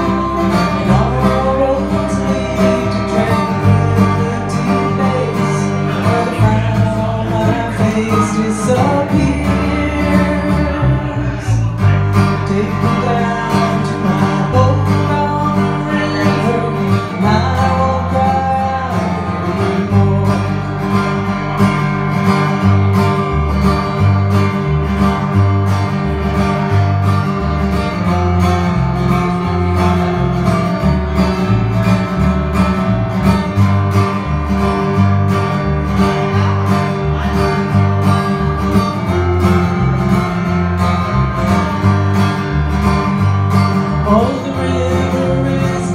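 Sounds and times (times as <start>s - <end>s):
amplified guitar duo playing: 0.0s - 45.9s.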